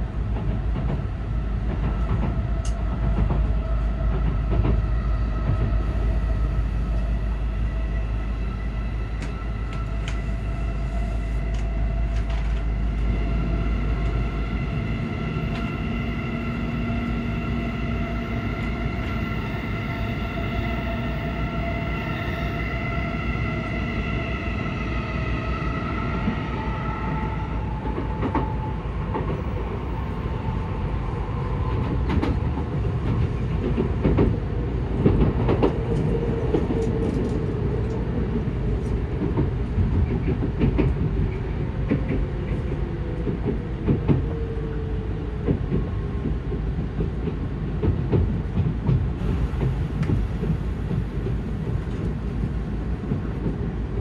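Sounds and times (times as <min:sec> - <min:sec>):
multi-tone train whine: 0:00.0 - 0:54.0
train wheels rumbling on rail: 0:00.0 - 0:54.0.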